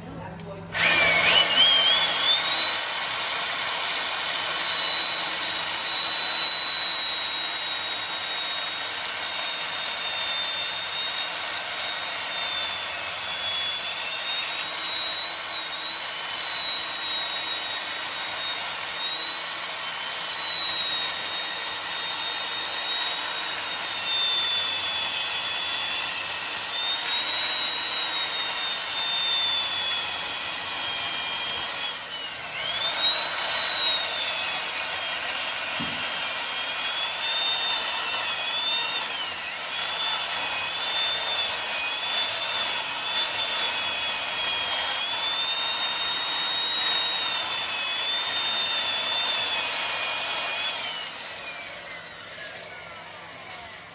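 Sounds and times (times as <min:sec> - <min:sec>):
electric chainsaw cutting wood: 0:00.7 - 0:53.9.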